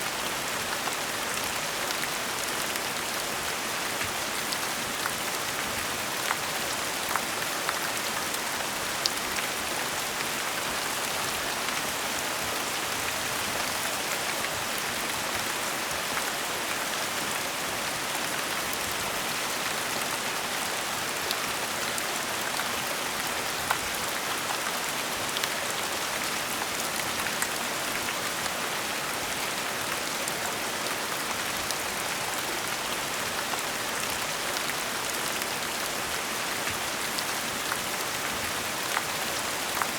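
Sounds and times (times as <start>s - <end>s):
gentle rain hiss: 0.0s - 39.9s.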